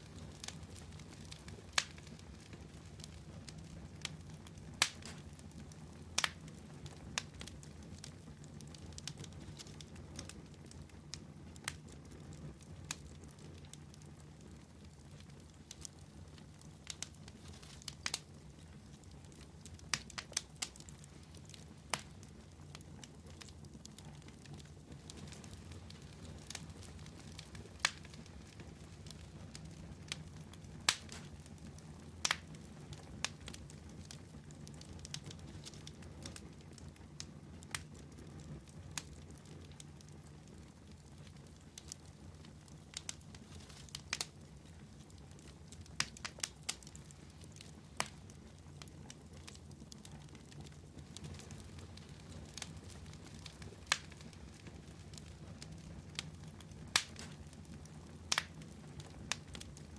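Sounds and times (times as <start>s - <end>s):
campfire rumbling: 0.0s - 59.9s
fire crackling and popping: 0.0s - 59.9s.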